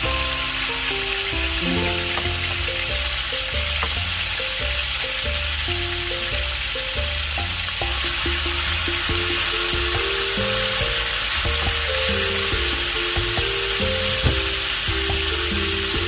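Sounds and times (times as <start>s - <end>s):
background music: 0.0s - 16.0s
chicken sizzling in hot oil: 0.0s - 16.0s.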